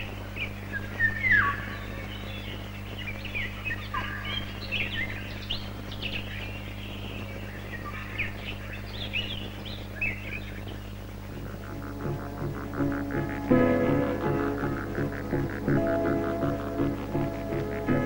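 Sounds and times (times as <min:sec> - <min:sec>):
birds chirping and singing: 0:00.0 - 0:18.0
steady low hum: 0:00.0 - 0:18.0.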